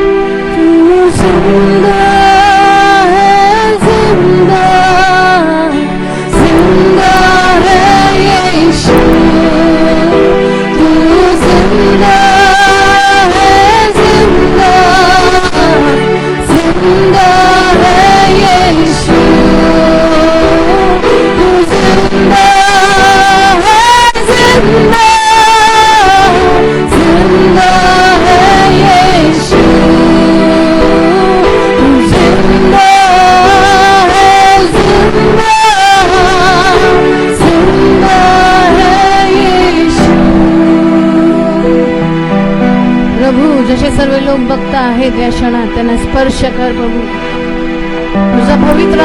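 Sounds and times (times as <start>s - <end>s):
band playing steady chords: 0.0s - 44.8s
worship song melody: 0.0s - 49.0s.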